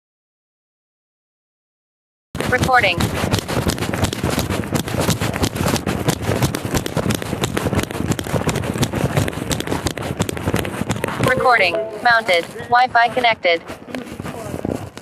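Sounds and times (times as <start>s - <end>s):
camera rustling against clothing: 2.4s - 15.0s
rapid footfalls: 2.4s - 15.0s.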